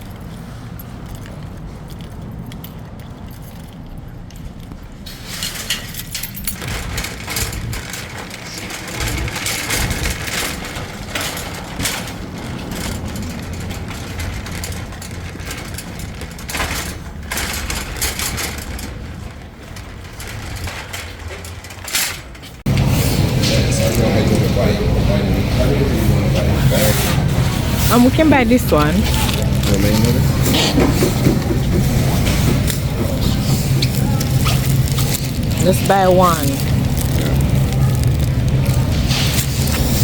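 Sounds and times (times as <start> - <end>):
shopping cart rattling: 0.0 - 40.0.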